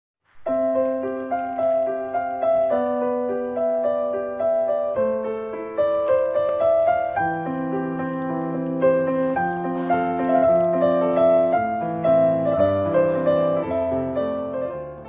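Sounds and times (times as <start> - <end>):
piano music: 0.4 - 15.0.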